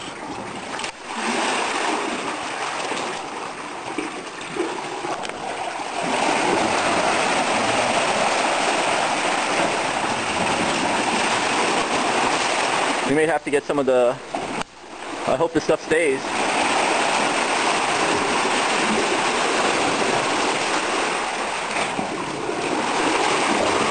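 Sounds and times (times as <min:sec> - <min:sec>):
water surging and splashing on rock: 0:00.0 - 0:23.9.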